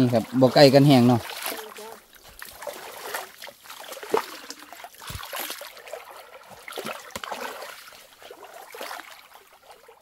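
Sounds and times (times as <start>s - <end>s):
water splashing around wading boots: 0.0s - 10.0s.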